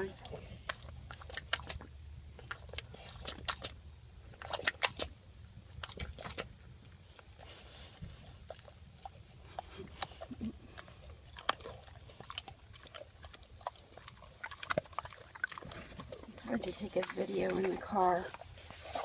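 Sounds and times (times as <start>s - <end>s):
dog chewing a stick: 0.0s - 19.0s.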